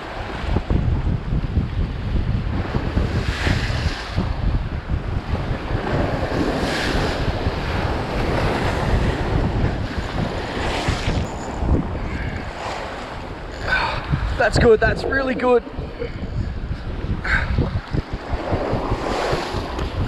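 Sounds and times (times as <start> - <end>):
waves surging and washing: 0.0 - 20.0
wind buffeting microphone: 0.0 - 20.0.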